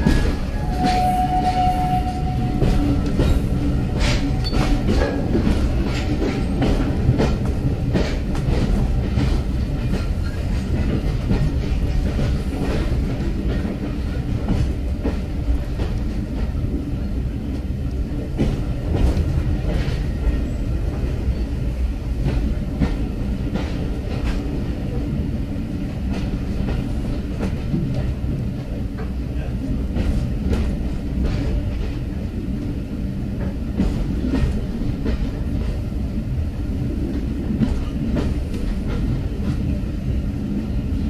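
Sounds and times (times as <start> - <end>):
train low rumble: 0.0 - 41.0.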